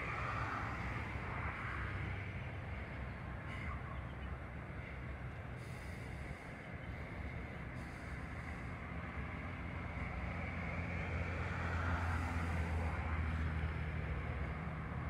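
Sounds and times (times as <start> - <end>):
distant engine noise: 0.0 - 15.0.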